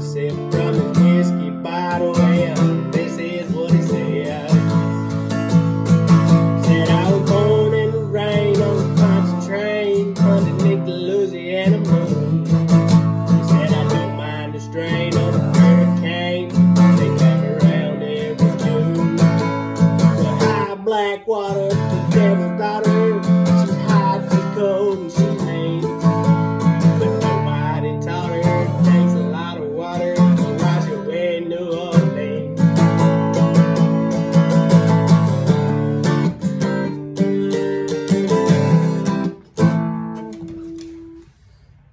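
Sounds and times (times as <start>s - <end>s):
country music with acoustic guitar: 0.0s - 41.4s.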